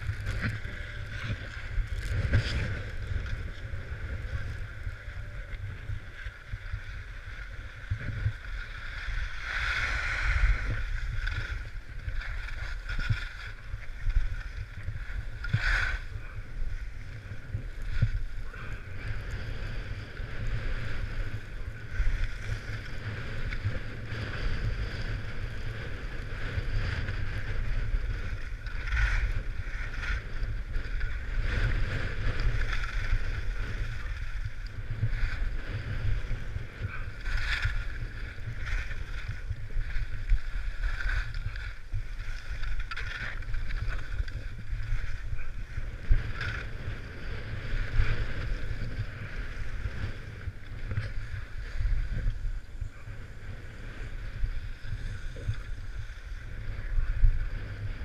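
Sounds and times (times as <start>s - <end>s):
ski edges scraping snow: 0.0s - 53.1s
skis sliding on packed snow: 0.0s - 58.0s
wind rumbling on microphone: 0.0s - 58.0s.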